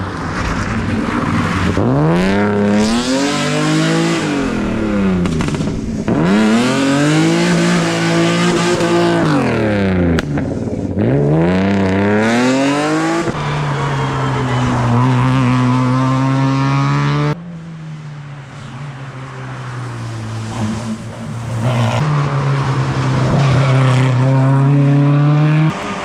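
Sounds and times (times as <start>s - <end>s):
distant car engine: 0.0s - 26.0s
rally car engines at full throttle: 0.0s - 26.0s.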